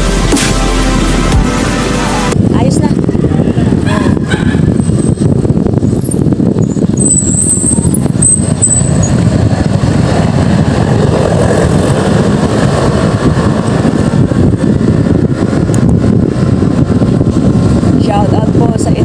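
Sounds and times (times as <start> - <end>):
road and vehicle noise: 0.0 - 19.0
wind buffeting microphone: 2.3 - 19.0.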